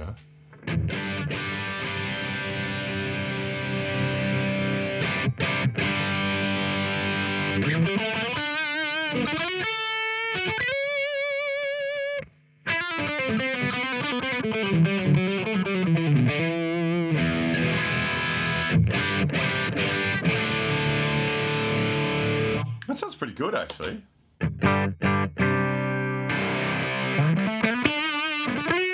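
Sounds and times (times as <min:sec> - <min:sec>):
distorted electric guitar: 0:00.0 - 0:22.8, 0:24.4 - 0:28.9.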